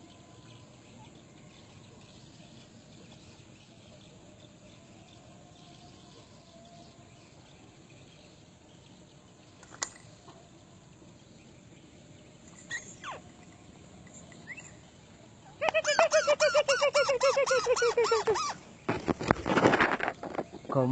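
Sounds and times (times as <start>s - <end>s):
outdoor background hiss: 0.0s - 20.9s.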